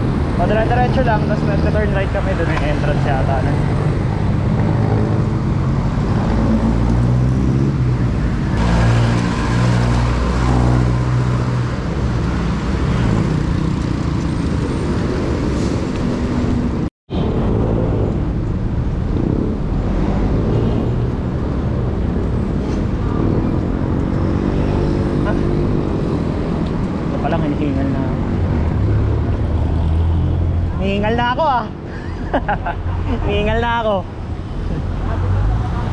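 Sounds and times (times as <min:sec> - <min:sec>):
road noise: 0:00.0 - 0:35.9.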